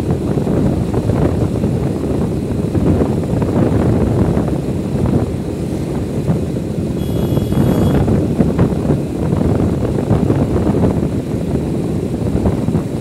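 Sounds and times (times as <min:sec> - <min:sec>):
motorbike engine rumble: 0:00.0 - 0:13.0
wind buffeting microphone: 0:00.0 - 0:13.0.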